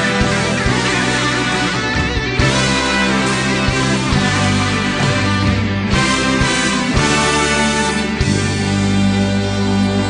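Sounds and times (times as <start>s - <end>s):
instrumental pop ballad: 0.0s - 10.0s.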